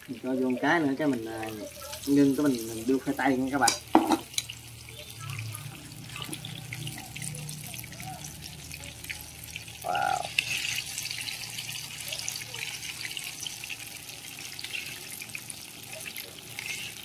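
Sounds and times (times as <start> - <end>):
hot oil sizzling and crackling: 0.0 - 17.0.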